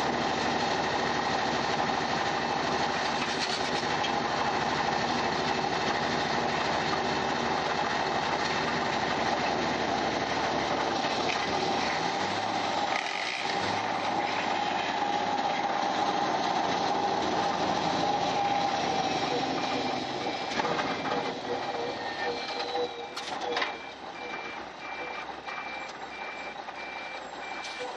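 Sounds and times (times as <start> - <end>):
diesel truck engine under load: 0.0 - 27.9.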